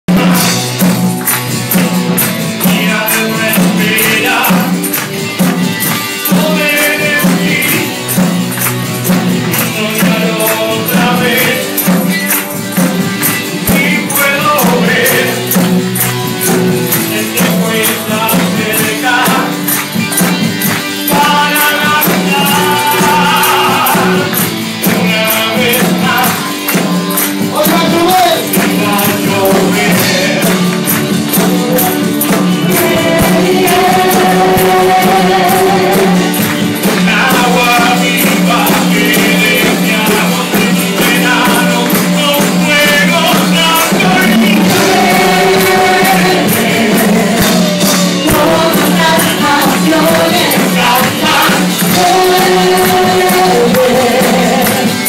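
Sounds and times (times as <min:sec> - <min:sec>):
instrumental backing: 0:00.1 - 0:55.0
person singing worship song: 0:00.1 - 0:55.0
steady percussion beat: 0:00.1 - 0:55.0.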